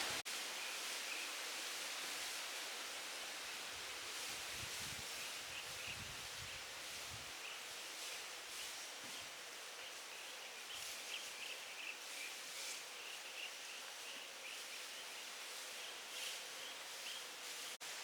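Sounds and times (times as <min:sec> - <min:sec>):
steady forest hiss: 0:00.0 - 0:18.0.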